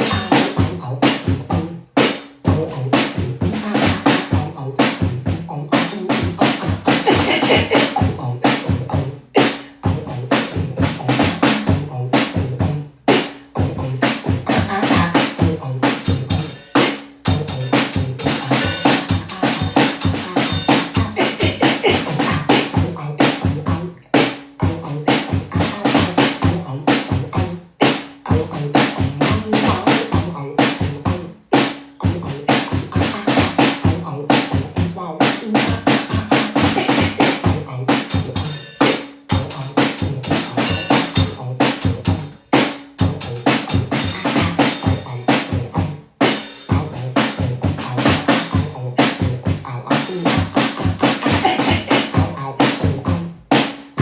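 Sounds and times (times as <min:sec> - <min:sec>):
beatboxing: 0:00.0 - 0:54.0.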